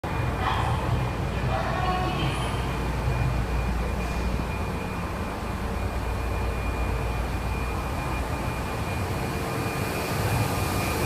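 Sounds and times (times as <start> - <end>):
high-pitched whine: 0.0 - 11.0
train rumble: 0.0 - 11.0.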